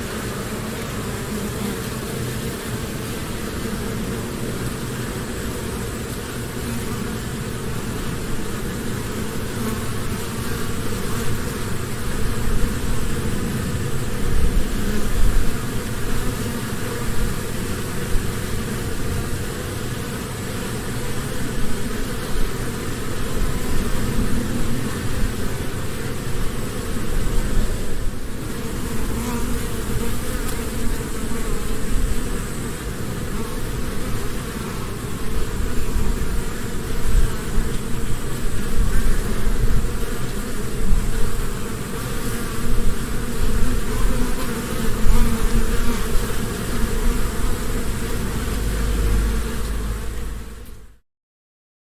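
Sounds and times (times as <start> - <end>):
bees buzzing in a hive: 0.0 - 51.0.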